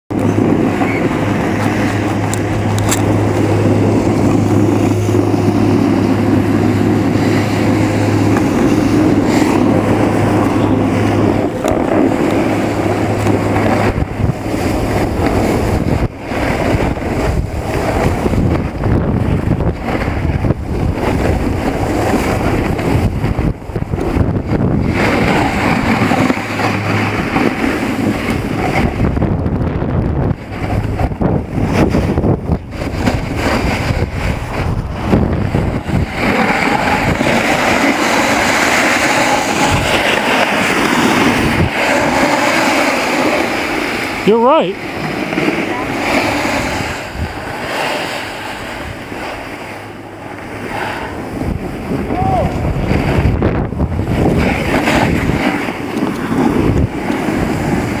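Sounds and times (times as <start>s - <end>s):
wind buffeting microphone: 0.0s - 58.0s
snowboard sliding over snow: 0.1s - 58.0s.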